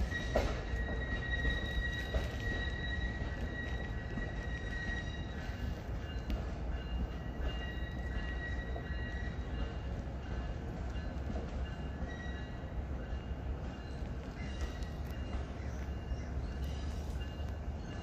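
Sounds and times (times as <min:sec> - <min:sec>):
freight train rumble: 0:00.0 - 0:18.0
train wheel squeal: 0:00.0 - 0:18.0.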